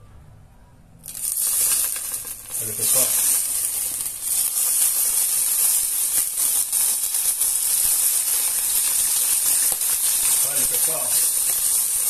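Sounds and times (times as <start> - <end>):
hot oil sizzling on pork skin: 1.0 - 12.0.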